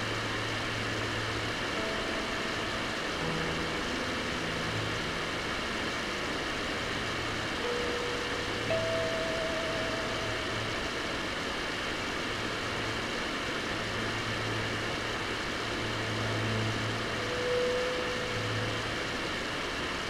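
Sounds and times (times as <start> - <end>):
low hum: 0.0 - 20.0
sustained electric guitar notes: 0.0 - 20.0.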